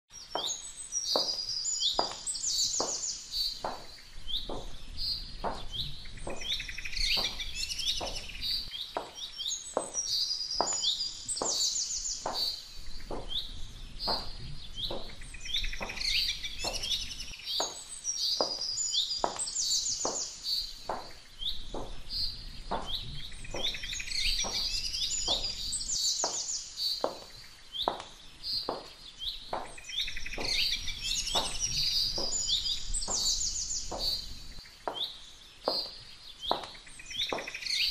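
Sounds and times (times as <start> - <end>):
birdsong chirps: 0.1 - 37.9.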